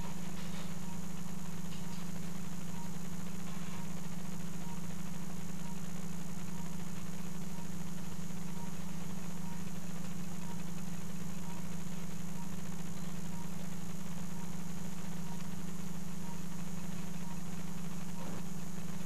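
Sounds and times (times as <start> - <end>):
equipment humming: 0.0 - 19.0.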